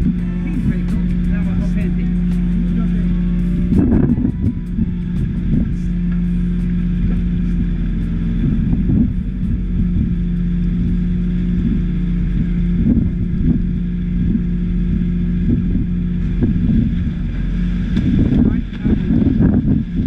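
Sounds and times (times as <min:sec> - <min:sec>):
boat engine humming: 0:00.0 - 0:20.0
wind on microphone: 0:00.0 - 0:20.0.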